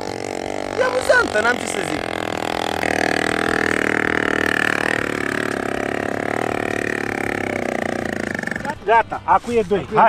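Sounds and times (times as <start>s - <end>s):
small petrol engine running: 0.0s - 9.3s.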